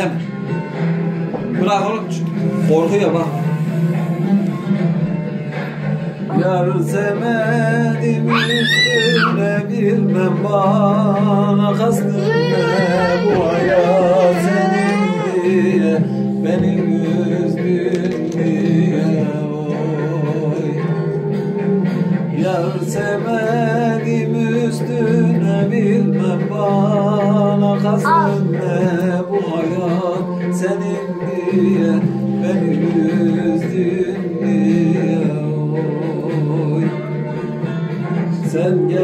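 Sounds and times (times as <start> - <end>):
backing music: 0.0 - 39.0
man singing with vibrato: 5.3 - 21.4, 22.3 - 39.0.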